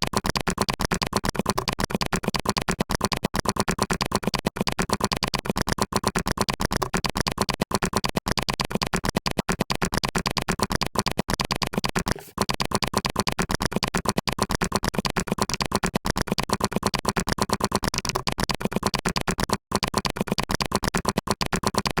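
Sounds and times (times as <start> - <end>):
fast typing on keyboard: 0.0 - 22.0.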